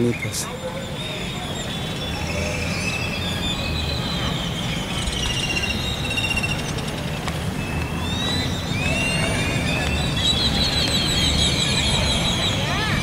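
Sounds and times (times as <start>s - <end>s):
birds chirping and whistling: 0.0s - 13.0s.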